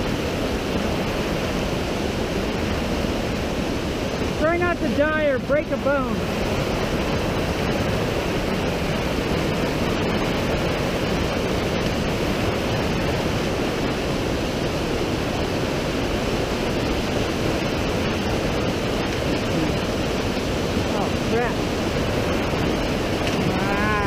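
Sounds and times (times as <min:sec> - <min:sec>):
whitewater rushing over boulders: 0:00.0 - 0:24.0.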